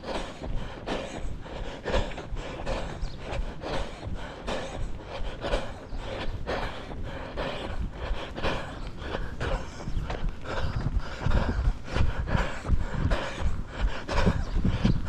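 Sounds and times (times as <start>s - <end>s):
runner panting: 0.0s - 15.0s
low rumble of movement: 0.1s - 15.0s.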